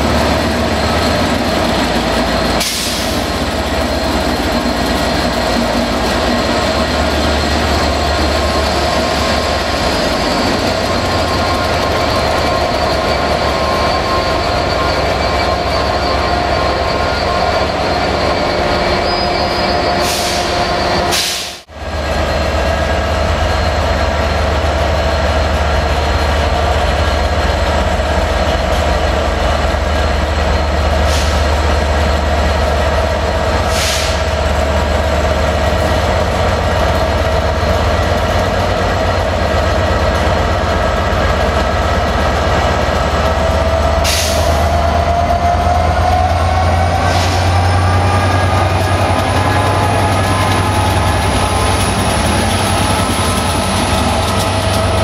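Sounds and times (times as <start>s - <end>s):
train running: 0.0s - 55.0s.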